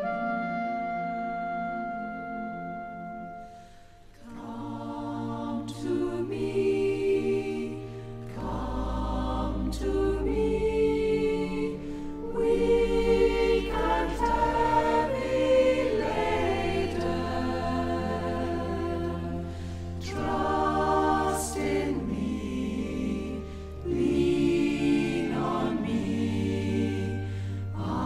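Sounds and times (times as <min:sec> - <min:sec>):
choir singing slow worship song: 0:00.0 - 0:28.0.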